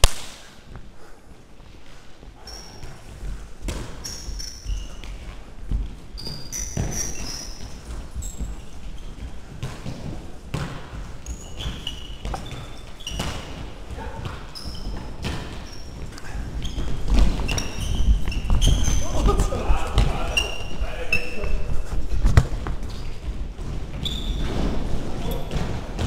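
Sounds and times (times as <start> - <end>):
running footsteps: 0.7 - 26.0
shoes squeaking: 1.8 - 26.0.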